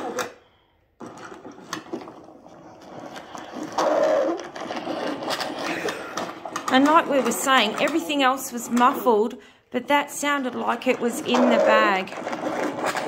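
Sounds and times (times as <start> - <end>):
bumps and clicks: 1.0 - 13.0.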